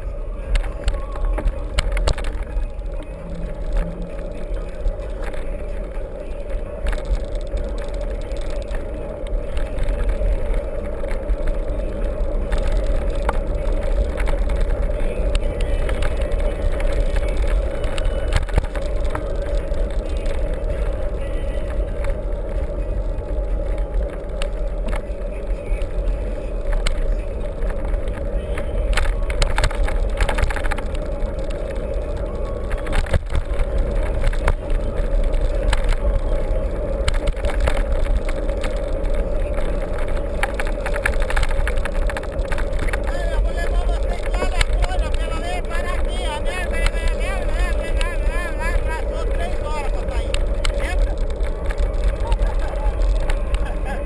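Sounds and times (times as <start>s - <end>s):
bike tyres rolling on trail: 0.0s - 54.0s
steady hum: 0.0s - 54.0s
rattles and clicks: 0.5s - 54.0s.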